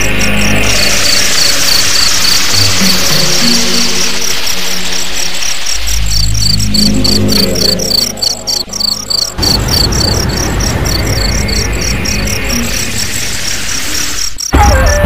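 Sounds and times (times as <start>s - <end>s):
low drone rumble: 0.0s - 14.4s
crickets chirping: 0.0s - 15.0s.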